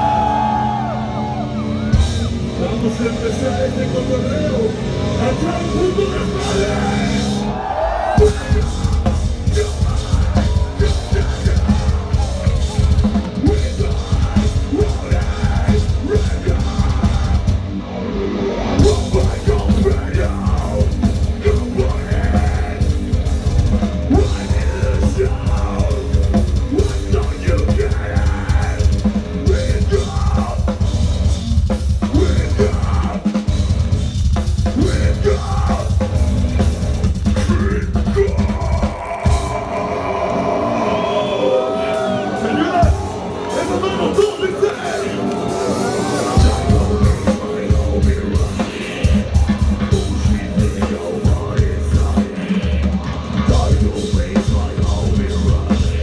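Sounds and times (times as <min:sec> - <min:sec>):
live metal band: 0:00.0 - 0:56.0
yelled vocals: 0:00.0 - 0:56.0
pounding drums: 0:08.1 - 0:17.7, 0:18.8 - 0:40.7, 0:41.7 - 0:56.0.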